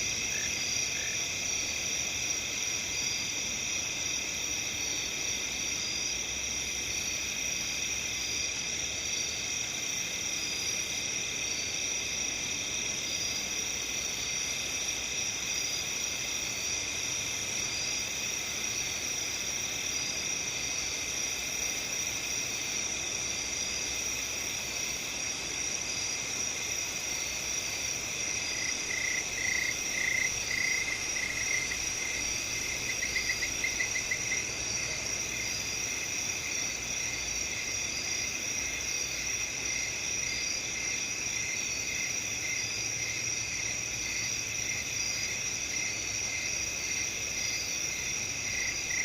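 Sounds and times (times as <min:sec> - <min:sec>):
crickets and insects chirring: 0:00.0 - 0:49.0
loud pulsing insect chirp: 0:00.0 - 0:49.0.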